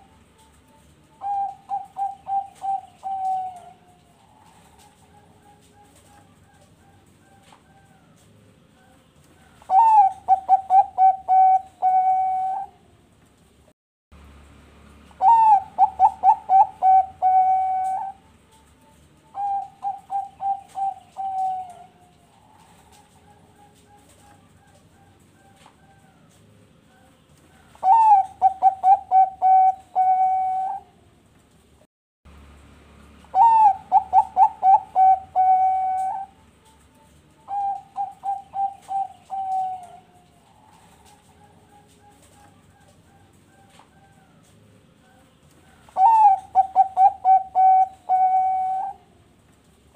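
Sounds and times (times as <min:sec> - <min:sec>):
dove cooing: 0:00.0 - 0:13.2, 0:15.2 - 0:31.3, 0:33.2 - 0:49.9.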